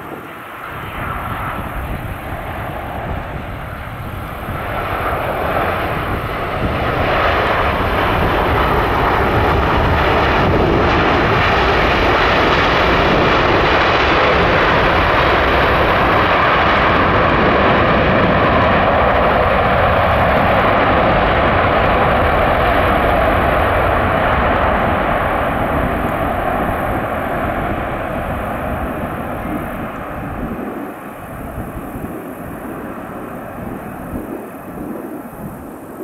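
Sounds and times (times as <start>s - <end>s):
jet engines rushing on landing: 0.0s - 36.0s.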